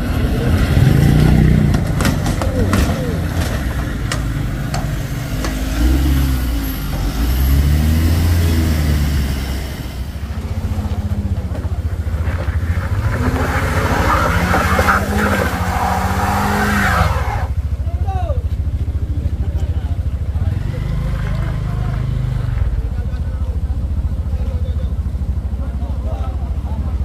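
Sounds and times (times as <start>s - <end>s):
car engine revving: 0.0s - 17.8s, 19.0s - 25.9s
pickup engine pulling: 0.0s - 27.0s.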